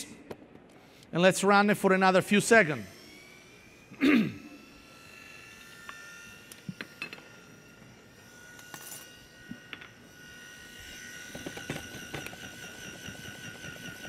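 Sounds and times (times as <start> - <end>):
food processor motor whine: 2.3 - 14.0.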